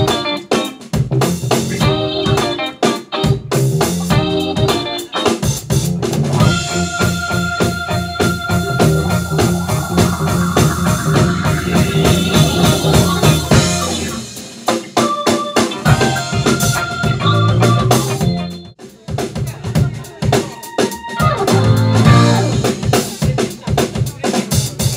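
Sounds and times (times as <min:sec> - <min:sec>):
organ-toned keyboard: 0:00.0 - 0:18.8, 0:20.6 - 0:22.8
funk band playing: 0:00.0 - 0:24.9.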